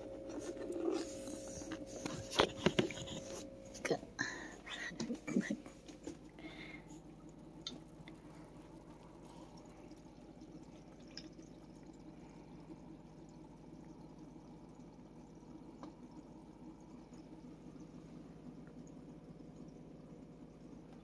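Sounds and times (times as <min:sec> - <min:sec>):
aquarium water bubbling: 0:00.0 - 0:21.0
low hum: 0:00.0 - 0:21.0.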